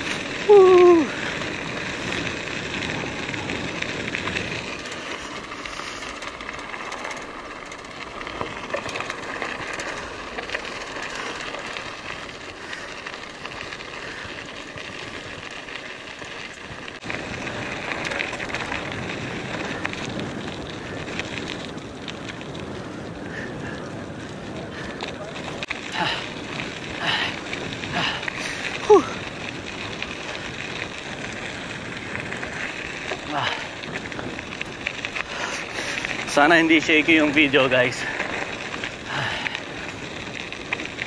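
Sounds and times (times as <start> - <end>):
bike tyres rolling over gravel: 0.0 - 41.0.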